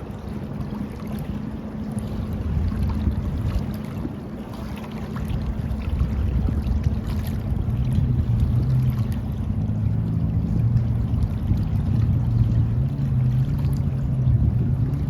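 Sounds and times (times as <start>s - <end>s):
moving water rumbling: 0.0s - 15.0s
small splashes: 0.0s - 15.0s.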